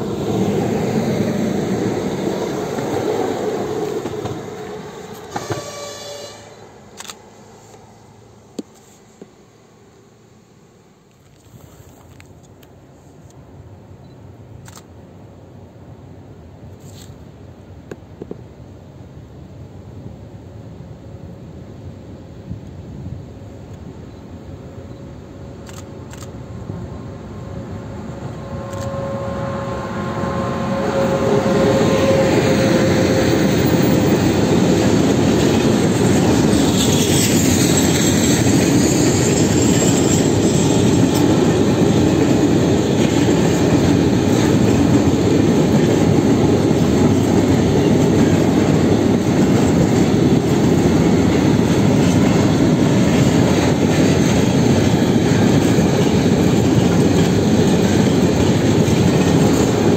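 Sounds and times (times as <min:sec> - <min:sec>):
freight train wheels rumbling: 0:00.0 - 0:09.6, 0:11.0 - 0:59.9.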